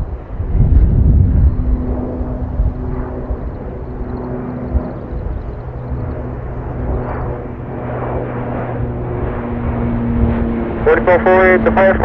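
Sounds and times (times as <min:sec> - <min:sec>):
wind buffeting microphone: 0:00.0 - 0:10.9
turboprop propeller drone: 0:00.0 - 0:12.0.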